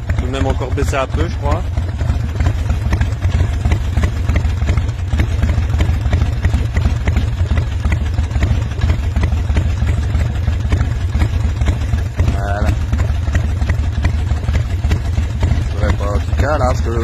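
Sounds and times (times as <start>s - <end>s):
motorcycle engine idling unevenly: 0.0s - 17.0s.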